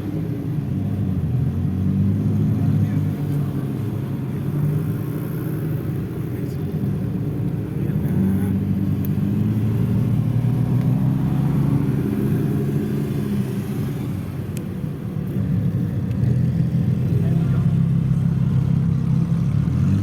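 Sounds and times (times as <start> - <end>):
sports car engines rumbling: 0.0 - 20.0.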